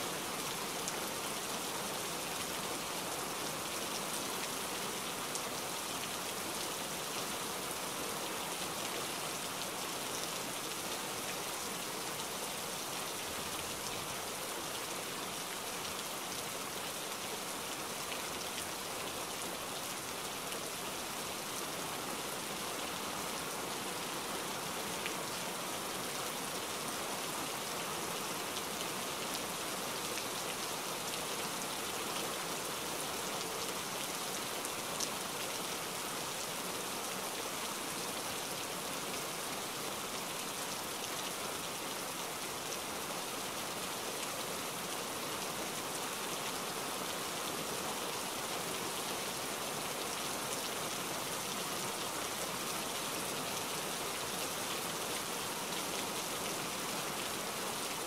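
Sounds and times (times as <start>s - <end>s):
steady rain-like hiss: 0.0s - 58.0s.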